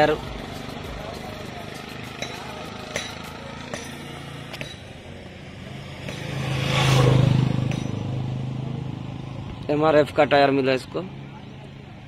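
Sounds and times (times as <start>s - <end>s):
vehicle passing by: 0.0s - 12.0s.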